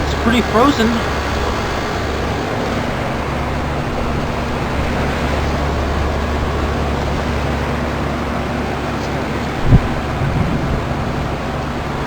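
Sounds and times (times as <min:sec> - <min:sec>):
heat pump fan rushing: 0:00.0 - 0:12.0.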